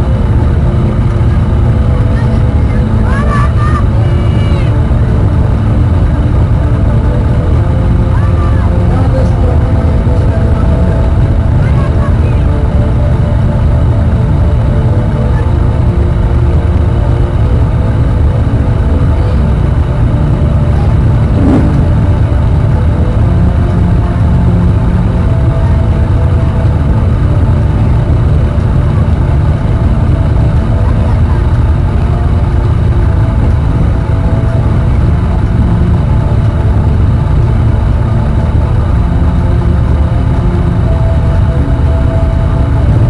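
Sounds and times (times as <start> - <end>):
motorcycle engines idling: 4.6 - 43.0.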